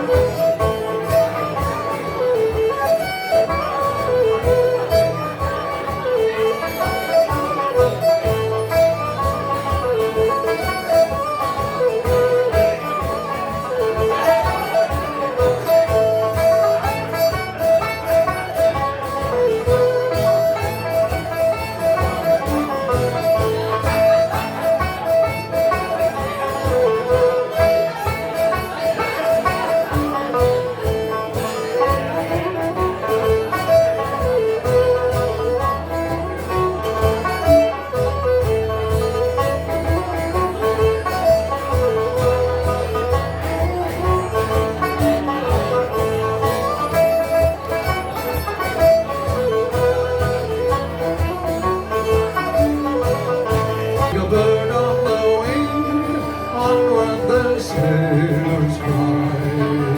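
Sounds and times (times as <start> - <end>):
banjo: 0.0 - 59.9
strummed twelve-string guitar: 0.0 - 59.9.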